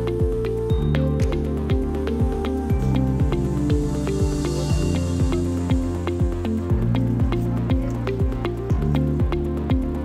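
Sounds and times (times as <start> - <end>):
upbeat corporate music: 0.0 - 10.0
deep kick drum: 0.2 - 10.0.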